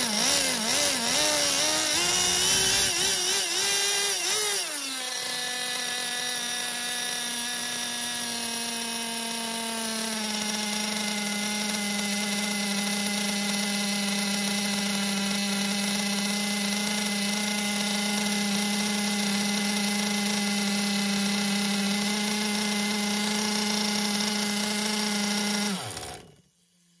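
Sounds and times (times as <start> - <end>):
small two-stroke engine buzzing: 0.0 - 26.6.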